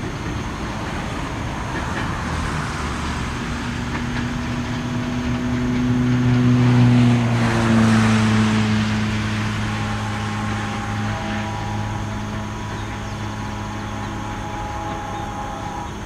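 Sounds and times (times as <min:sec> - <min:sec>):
diesel drone: 0:00.0 - 0:16.0
steel wheels running on rails: 0:00.0 - 0:16.0.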